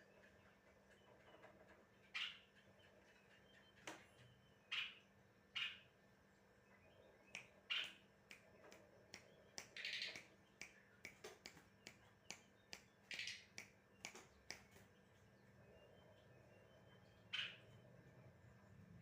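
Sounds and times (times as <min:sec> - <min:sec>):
songbird chirping and clicking: 0:00.0 - 0:18.3.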